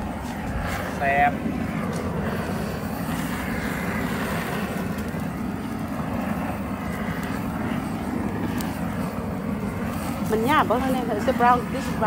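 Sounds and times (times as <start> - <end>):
propane torch flame rushing: 0.0 - 12.0.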